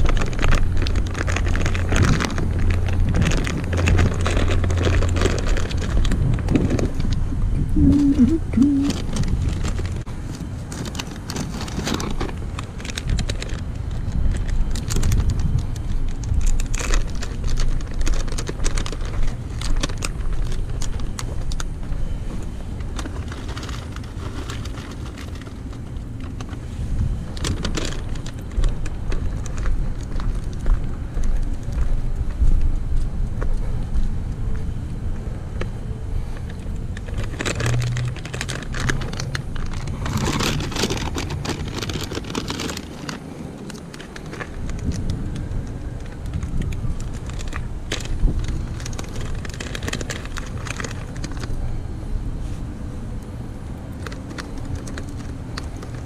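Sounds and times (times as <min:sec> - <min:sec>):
plastic bags rustling: 0:00.0 - 0:32.2, 0:35.5 - 0:52.8
steady low rumble: 0:00.0 - 0:56.0.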